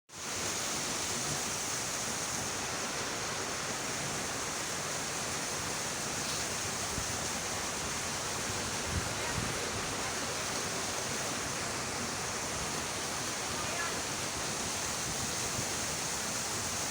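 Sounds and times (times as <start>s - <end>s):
running water rushing: 0.1s - 16.9s.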